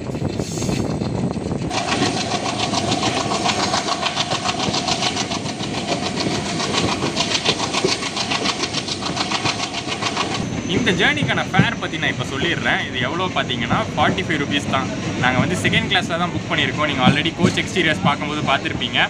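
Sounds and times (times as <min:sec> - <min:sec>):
diesel locomotive engine chugging: 0:00.0 - 0:19.0.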